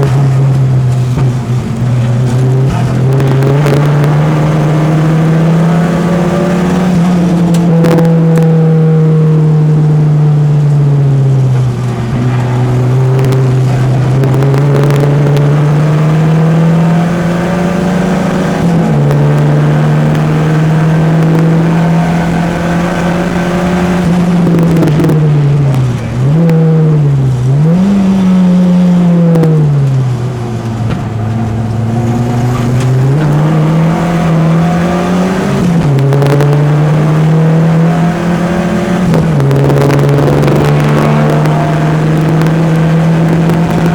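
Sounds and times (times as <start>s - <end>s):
car engine revving hard: 0.0s - 43.9s.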